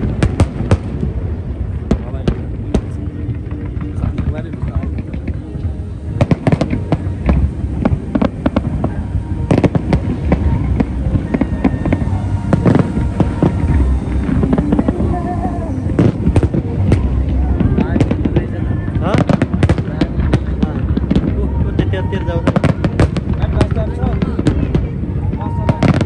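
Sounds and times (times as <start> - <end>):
continuous low rumble: 0.0 - 26.0
fireworks bangs and crackles: 0.0 - 26.0.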